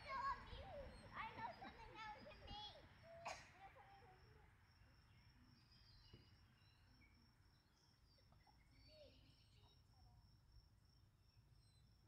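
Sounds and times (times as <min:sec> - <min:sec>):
faint bird chirps: 0:00.0 - 0:04.2, 0:05.0 - 0:10.2, 0:11.5 - 0:12.0.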